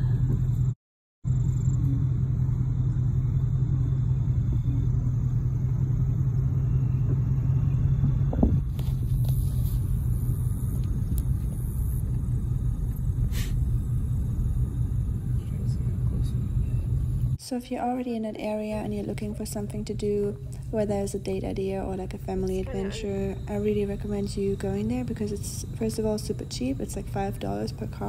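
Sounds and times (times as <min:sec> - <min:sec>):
car driving rumble: 0:00.0 - 0:17.4, 0:18.4 - 0:28.0.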